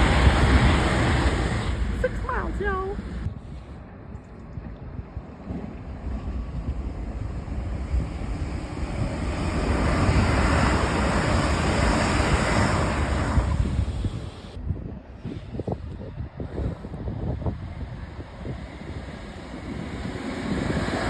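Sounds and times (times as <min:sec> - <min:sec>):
train passing at speed: 0:00.0 - 0:03.8, 0:05.1 - 0:21.0
wind buffeting microphone: 0:00.0 - 0:21.0.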